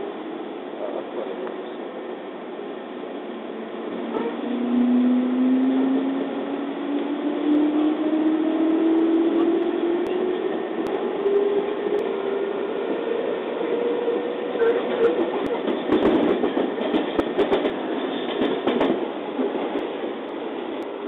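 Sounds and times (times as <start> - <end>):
rumble of train wheels: 0.0 - 21.0.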